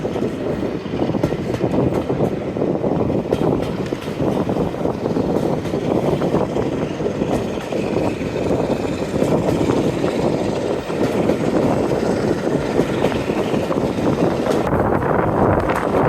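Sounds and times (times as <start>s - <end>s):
diesel locomotive engine rumble: 0.0s - 16.0s
train running noise: 0.0s - 16.0s.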